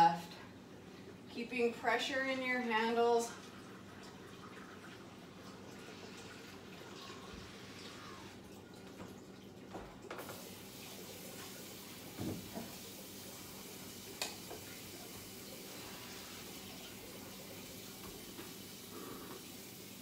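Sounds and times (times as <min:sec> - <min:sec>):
faint hum and hiss: 0:00.0 - 0:20.0.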